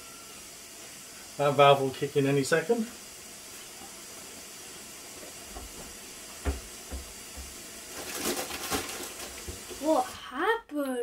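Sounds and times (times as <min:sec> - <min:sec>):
valve pulsing hiss of steam: 0:00.0 - 0:10.2
pressure cooker hissing: 0:00.0 - 0:10.6.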